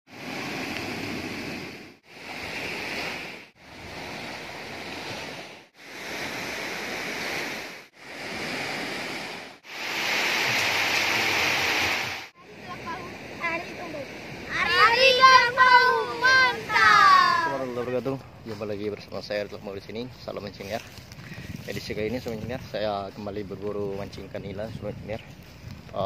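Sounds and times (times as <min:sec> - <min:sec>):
waves washing onto beach: 0:00.1 - 0:24.4
surf and wind rushing: 0:00.1 - 0:26.0.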